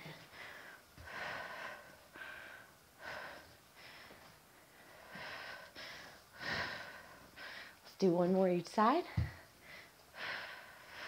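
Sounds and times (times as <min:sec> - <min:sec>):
woman breathing hard: 0:00.0 - 0:07.8, 0:09.2 - 0:11.0.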